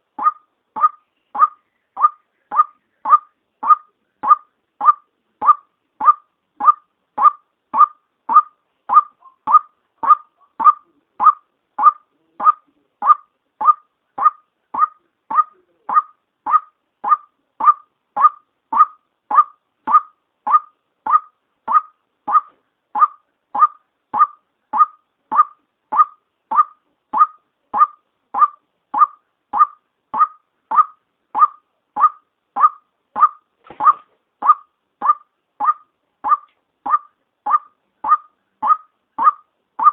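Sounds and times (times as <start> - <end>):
waterhen call: 0.0 - 39.9.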